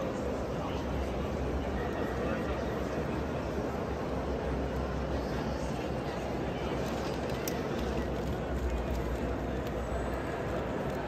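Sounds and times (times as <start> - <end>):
faint murmur of voices: 0.0 - 11.0.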